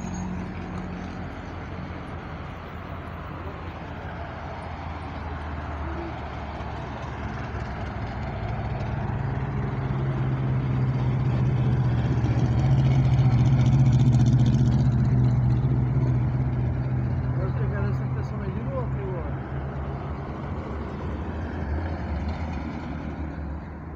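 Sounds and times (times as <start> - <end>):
race cars driving slowly past: 0.0 - 23.9.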